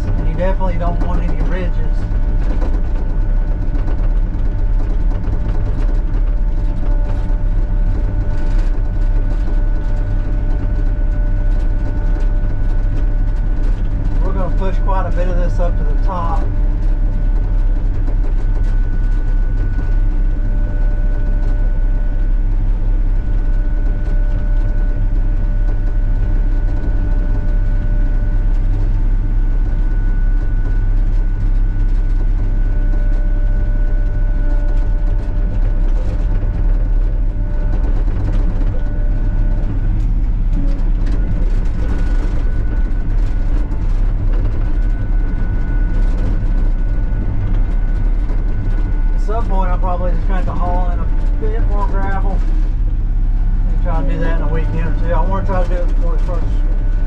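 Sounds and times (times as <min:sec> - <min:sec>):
excavator diesel engine whining: 0:00.0 - 0:57.0.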